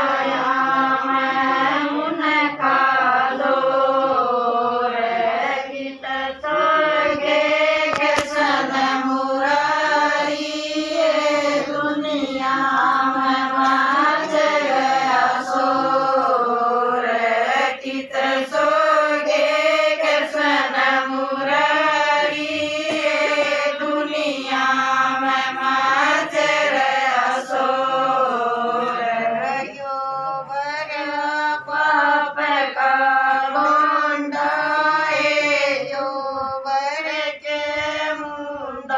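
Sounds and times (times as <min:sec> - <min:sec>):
women singing devotional song: 0:00.0 - 0:38.9.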